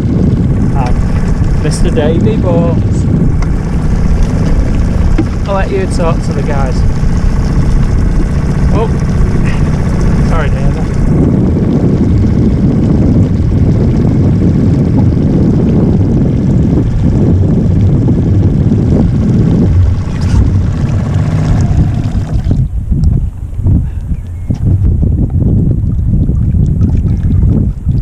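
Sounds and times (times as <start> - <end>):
small outboard motor running: 0.0 - 28.0
wind buffeting microphone: 0.0 - 28.0.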